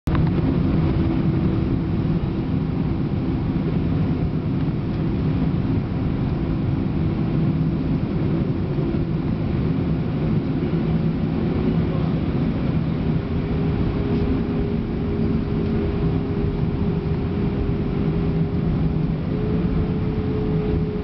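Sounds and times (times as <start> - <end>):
jet engines rumbling in cabin: 0.1 - 21.0.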